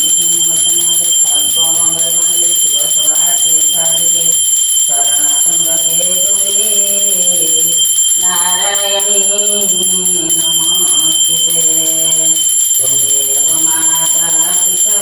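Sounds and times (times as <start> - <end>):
high-pitched ringing tone: 0.0 - 15.0
person chanting a prayer: 0.0 - 15.0.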